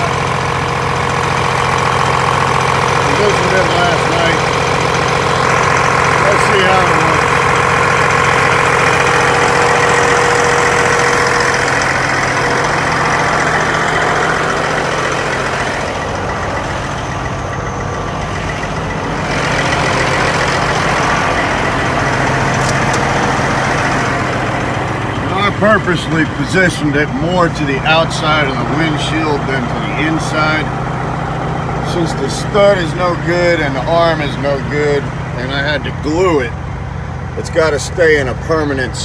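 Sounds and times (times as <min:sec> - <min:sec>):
truck diesel engine idling: 0:00.0 - 0:39.0.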